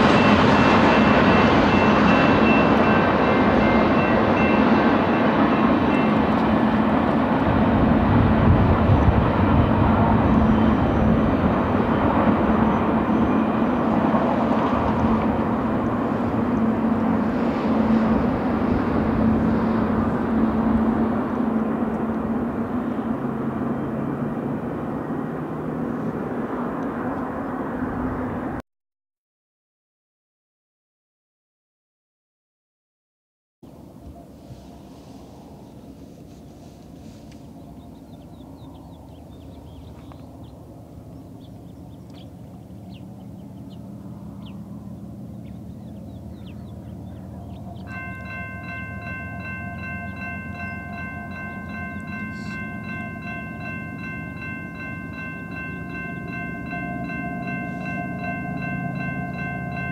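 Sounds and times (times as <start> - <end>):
freight train wheels rumbling: 0.0 - 28.6, 33.7 - 59.9.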